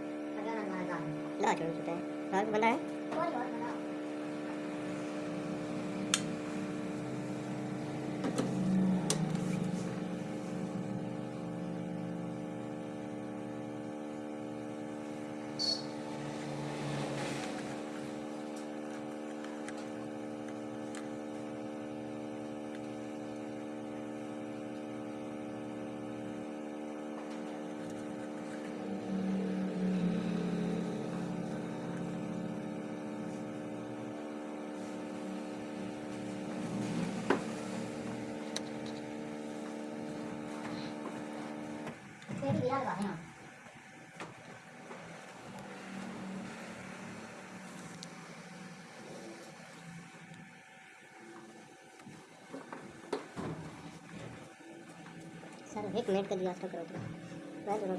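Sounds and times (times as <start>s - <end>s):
electrical hum with tones: 0.0s - 57.9s.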